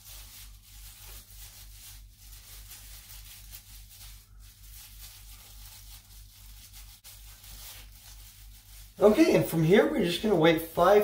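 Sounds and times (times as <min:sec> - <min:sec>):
glove rubbing on hair: 0:00.0 - 0:11.0.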